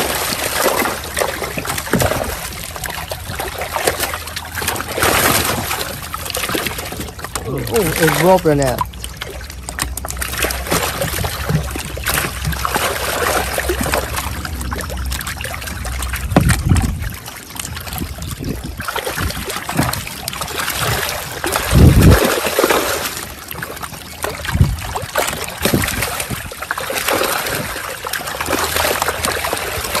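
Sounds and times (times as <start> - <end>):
water splashing and trickling: 0.0 - 30.0.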